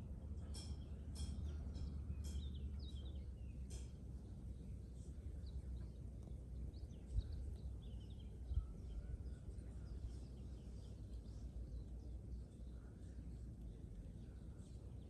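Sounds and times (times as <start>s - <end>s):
steady low rumble: 0.0s - 15.0s
small birds chirping: 0.4s - 15.0s.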